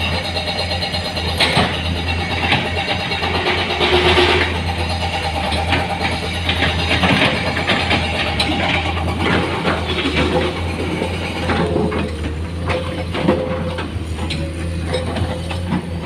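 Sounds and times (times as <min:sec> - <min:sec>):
diesel engine running: 0:00.0 - 0:16.0
clattering and knocks: 0:01.2 - 0:16.0.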